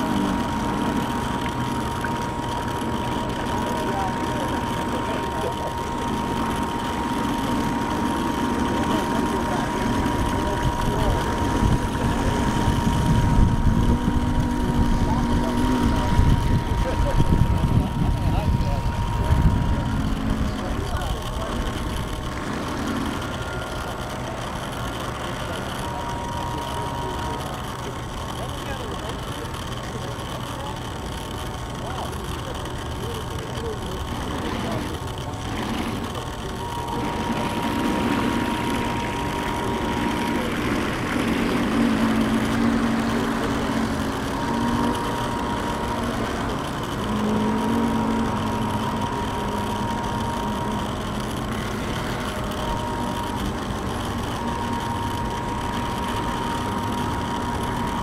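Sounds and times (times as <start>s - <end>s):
model boat motor whining: 0.0s - 58.0s.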